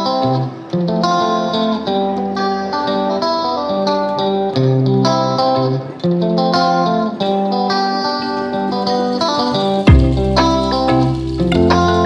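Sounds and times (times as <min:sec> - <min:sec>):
plucked guitar melody: 0:00.0 - 0:12.0.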